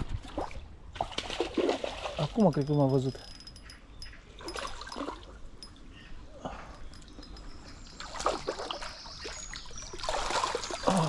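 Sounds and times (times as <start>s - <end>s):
stream water trickling and splashing: 0.0s - 5.9s, 6.7s - 11.0s.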